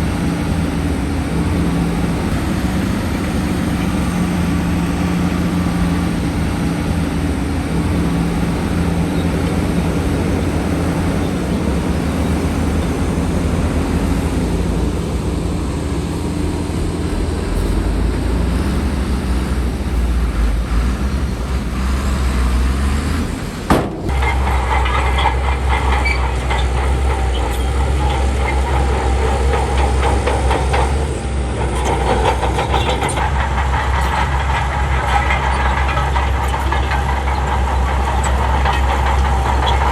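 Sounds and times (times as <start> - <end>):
heavy diesel engine running: 0.0 - 39.9
dense rattling: 0.1 - 39.9.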